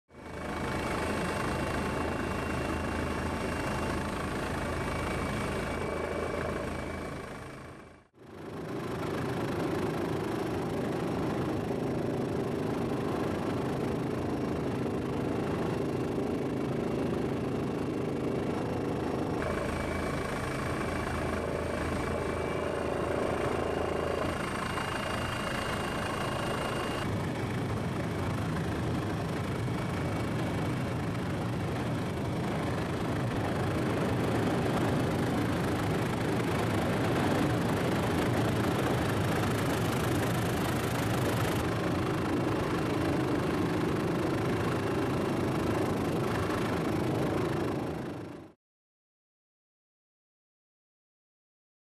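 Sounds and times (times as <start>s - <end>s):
helicopter engine and rotor: 0.1s - 48.6s.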